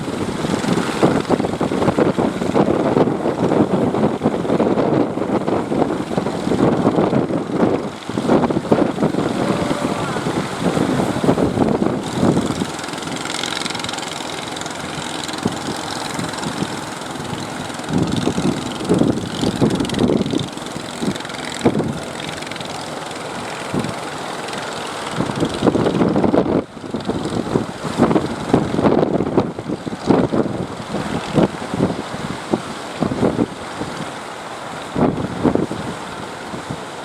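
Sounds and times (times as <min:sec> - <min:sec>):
boat engines running: 0:00.0 - 0:37.0.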